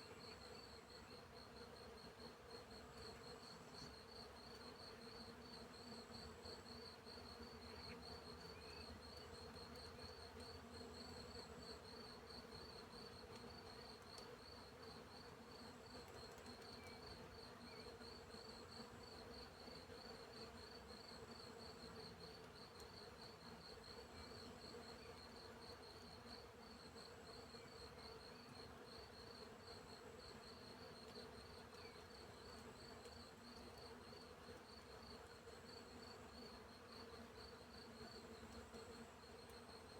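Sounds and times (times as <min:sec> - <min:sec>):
low buzz of bees: 0:00.0 - 0:39.9.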